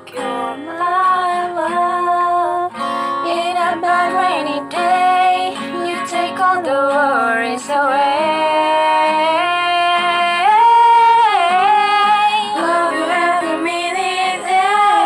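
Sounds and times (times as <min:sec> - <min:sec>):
woman singing wordless held notes: 0:00.0 - 0:15.0.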